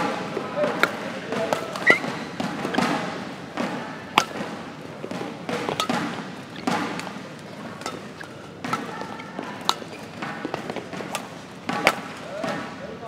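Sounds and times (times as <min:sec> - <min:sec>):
rackets striking shuttlecock: 0:00.0 - 0:12.8
murmur of hall: 0:00.0 - 0:13.0.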